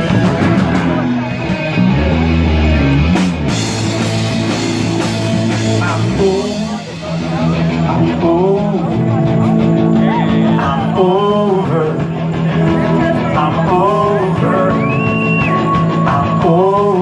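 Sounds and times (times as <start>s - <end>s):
bent electric guitar notes: 0.0s - 17.0s
rock band instrumental: 0.0s - 17.0s.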